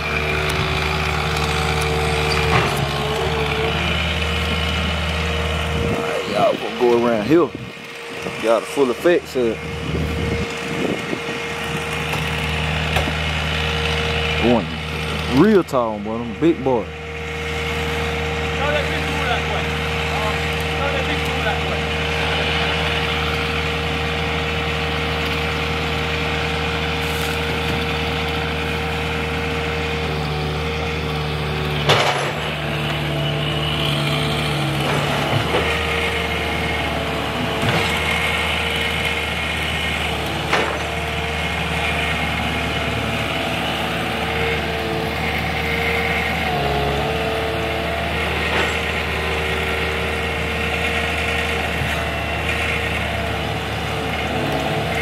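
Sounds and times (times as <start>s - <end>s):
heavy machine engine under load: 0.0s - 55.0s.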